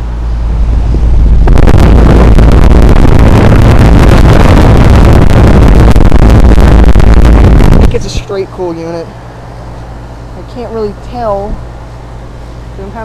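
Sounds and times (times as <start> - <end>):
air conditioner fan wind rush: 0.0 - 13.0.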